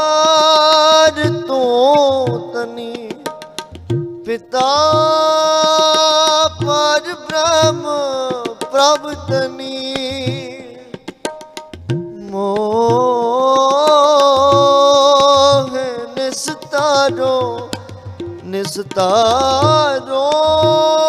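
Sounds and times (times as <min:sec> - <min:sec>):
man singing long notes: 0:00.0 - 0:03.3, 0:04.3 - 0:11.0, 0:12.2 - 0:21.0
harmonium: 0:00.0 - 0:21.0
tabla strokes: 0:00.0 - 0:21.0.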